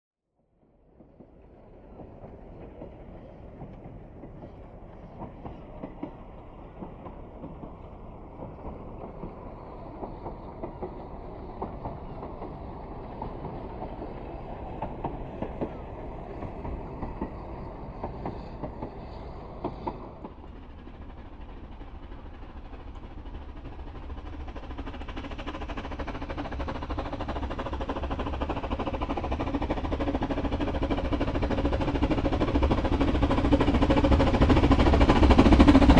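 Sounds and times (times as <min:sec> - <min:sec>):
steam train running: 0:00.6 - 0:35.9
wheels clicking over rail joints: 0:00.9 - 0:35.9.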